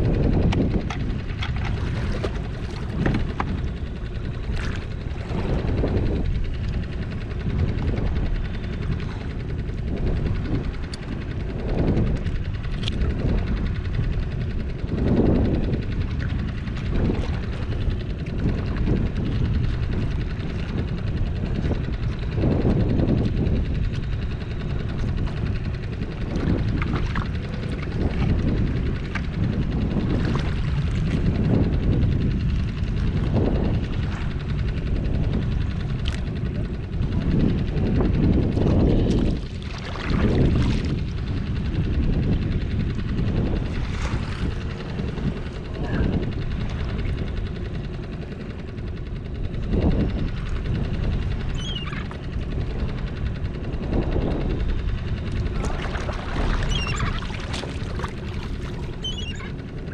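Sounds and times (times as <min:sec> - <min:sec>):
water sloshing against hull: 0:00.0 - 0:59.9
wind buffeting microphone: 0:00.0 - 0:59.9.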